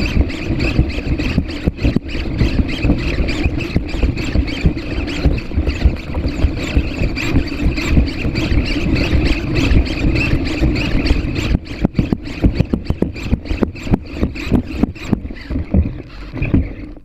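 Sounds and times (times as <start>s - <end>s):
servo motors whining: 0.0s - 17.0s.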